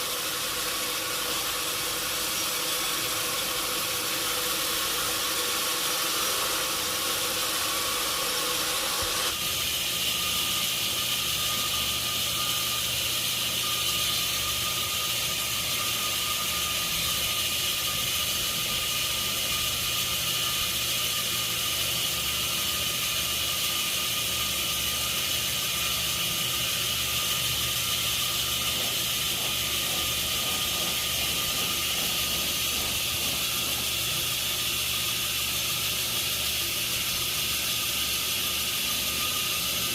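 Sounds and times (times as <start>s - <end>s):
sawmill machinery hissing and humming: 0.0s - 39.9s.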